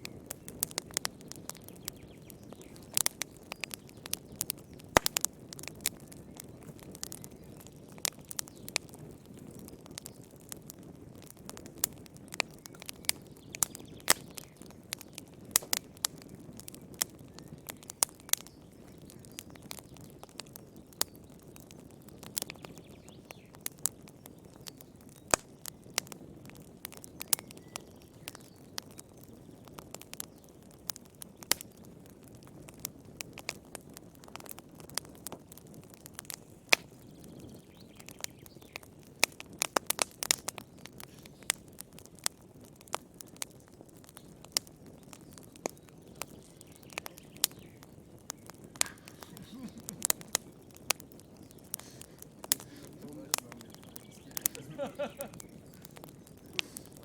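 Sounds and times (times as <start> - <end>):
low rush of flames: 0.0 - 57.0
wood fire crackling: 0.0 - 57.0.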